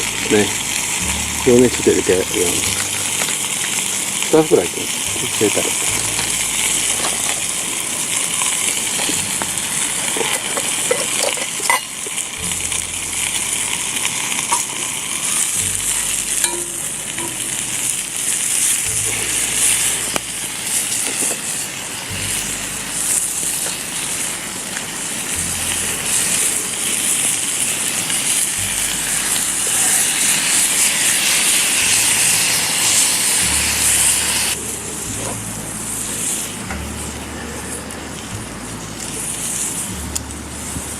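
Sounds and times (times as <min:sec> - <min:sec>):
chicken sizzling in a frying pan: 0:00.0 - 0:40.9
sauce bubbling: 0:00.0 - 0:40.9.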